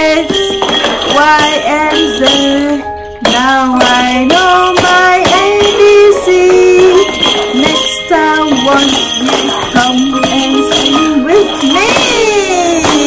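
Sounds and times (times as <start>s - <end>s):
shaken tambourine jingles: 0.0s - 13.0s.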